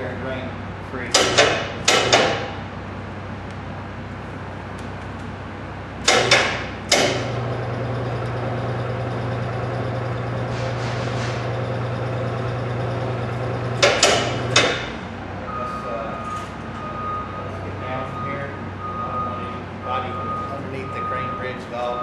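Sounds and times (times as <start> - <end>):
crane hoist electric hum: 0.0 - 22.0.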